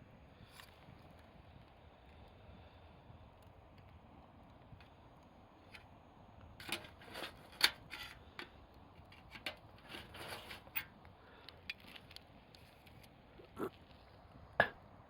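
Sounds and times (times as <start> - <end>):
campfire crackling and popping: 0.2 - 6.6, 7.8 - 9.9, 10.8 - 15.0.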